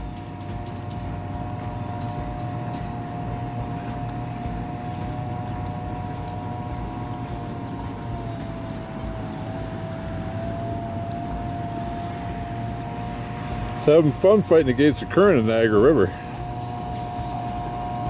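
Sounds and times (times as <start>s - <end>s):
outboard motor running: 0.0s - 18.0s
water noise: 0.0s - 18.0s
wind: 0.0s - 18.0s.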